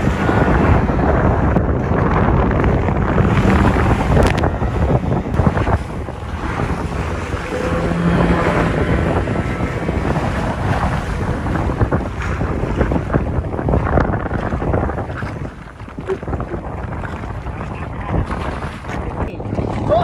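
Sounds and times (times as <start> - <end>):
outboard motor: 0.0 - 20.0
rushing water and spray: 0.0 - 20.0
wind buffeting microphone: 0.0 - 20.0.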